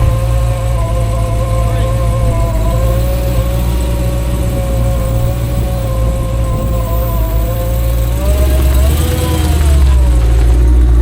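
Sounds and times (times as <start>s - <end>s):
faint wavering whine: 0.0s - 10.4s
car engine rumbling: 0.0s - 11.0s.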